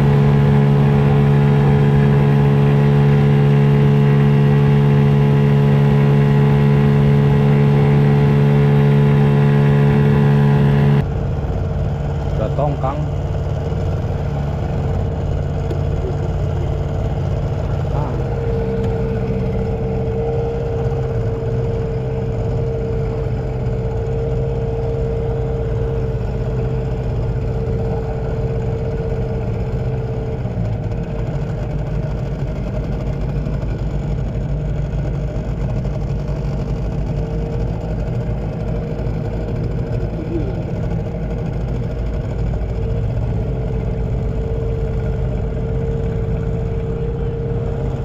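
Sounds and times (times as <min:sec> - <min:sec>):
outboard motor running: 0:00.0 - 0:48.0.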